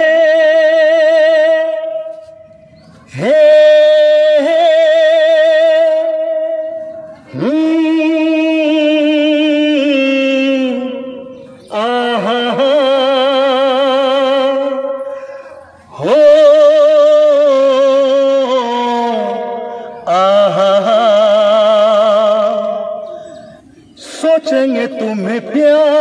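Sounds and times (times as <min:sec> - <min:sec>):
man singing with vibrato: 0:00.0 - 0:26.0.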